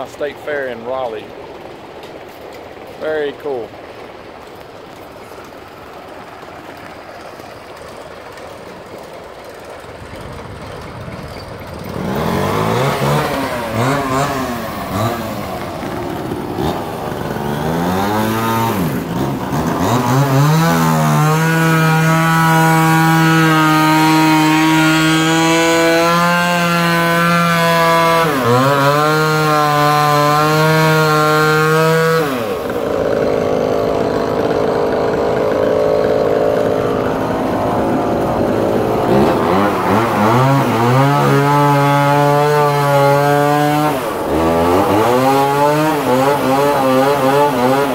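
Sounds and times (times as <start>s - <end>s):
chainsaw revving and cutting timber: 0.0s - 47.9s.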